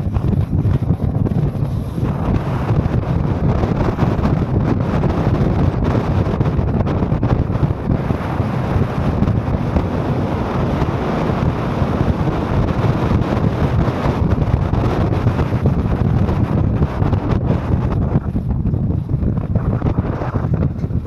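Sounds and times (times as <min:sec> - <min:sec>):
car engine and tyre rumble: 0:00.0 - 0:21.0
wind buffeting microphone: 0:00.0 - 0:21.0.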